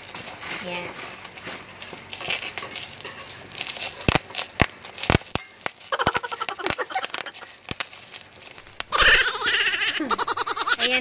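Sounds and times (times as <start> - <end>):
bubble wrap bubbles popping: 0.0 - 0.3, 1.0 - 10.8
bubble wrap crinkling: 0.0 - 11.0.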